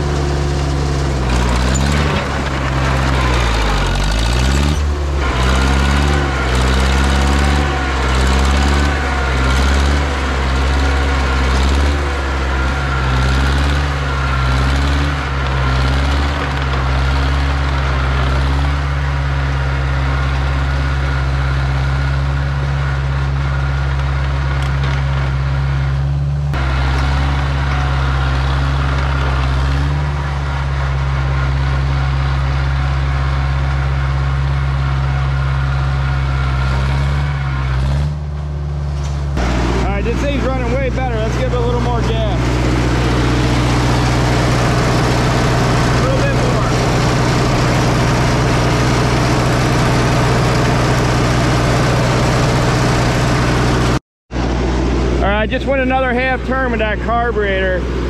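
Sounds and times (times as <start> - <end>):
dozer engine running under load: 0.0 - 58.0.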